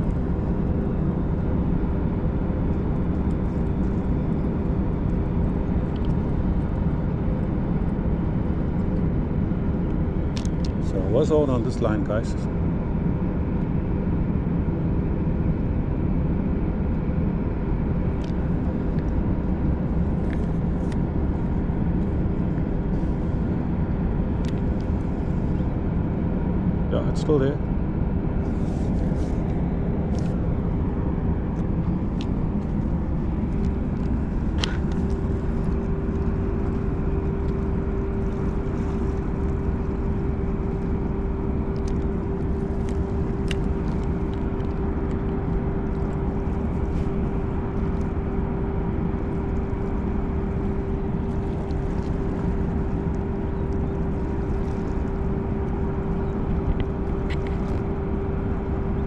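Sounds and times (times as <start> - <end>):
ship engine droning: 0.0 - 59.0.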